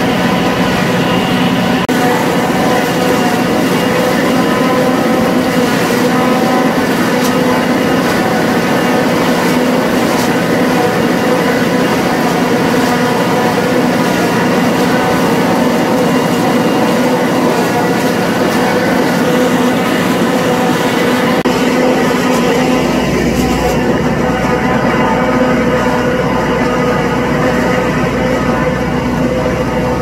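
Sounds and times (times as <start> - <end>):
tractor and machinery running: 0.0 - 30.0.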